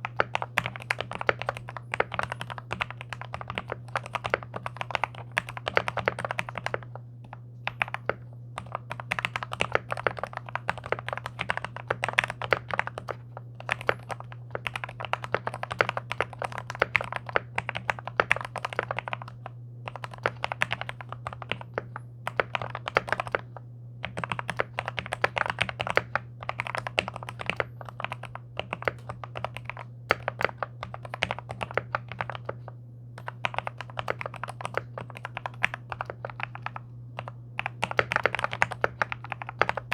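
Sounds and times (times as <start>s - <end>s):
mechanical keyboard typing: 0.0s - 39.9s
steady low hum: 0.0s - 39.9s.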